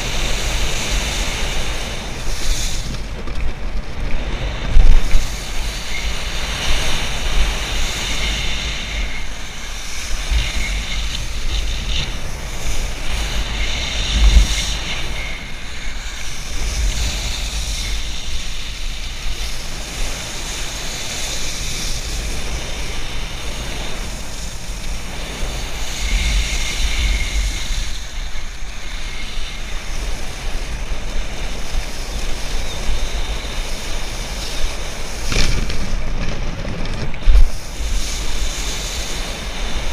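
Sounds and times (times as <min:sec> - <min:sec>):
wakeboard hissing across water: 0:00.0 - 0:03.2, 0:04.2 - 0:36.1, 0:37.3 - 0:39.9
wind buffeting microphone: 0:00.0 - 0:39.9.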